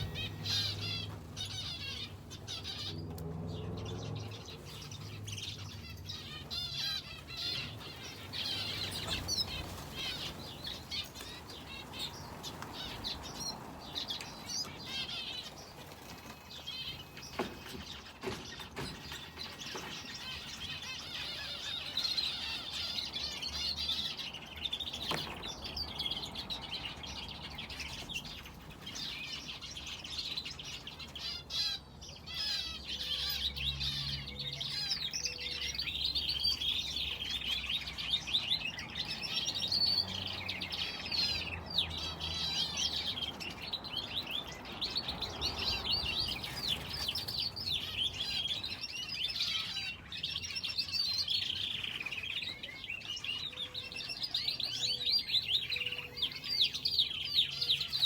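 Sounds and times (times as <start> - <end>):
finches and canary chirping: 0.0 - 58.0.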